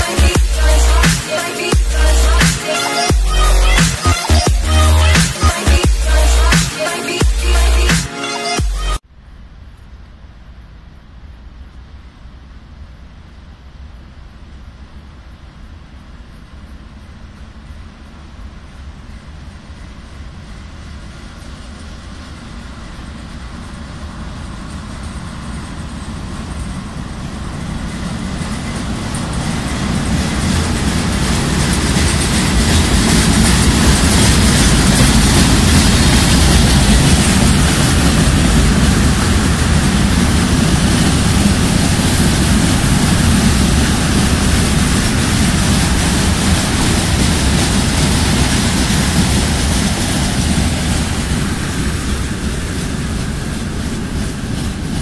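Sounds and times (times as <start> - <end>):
electric locomotive approaching: 0.0 - 55.0
wheels rumbling on rails: 8.6 - 55.0.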